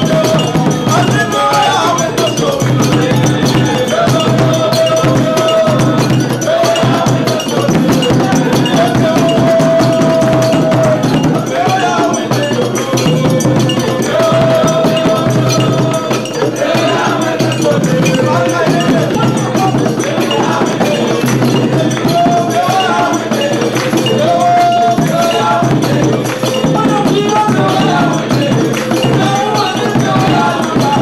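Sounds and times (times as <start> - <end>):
hand clapping: 0.0 - 31.0
steady percussion: 0.0 - 31.0.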